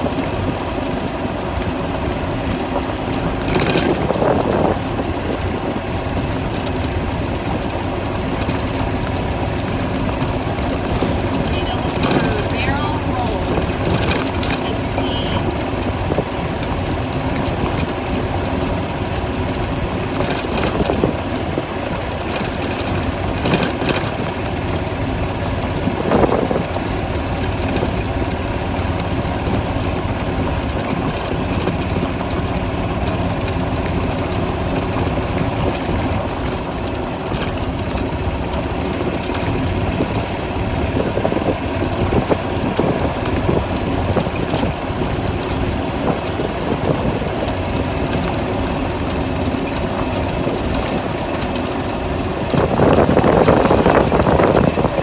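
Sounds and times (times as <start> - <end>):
golf cart engine running: 0.0 - 55.0
tyres on gravel: 0.0 - 55.0.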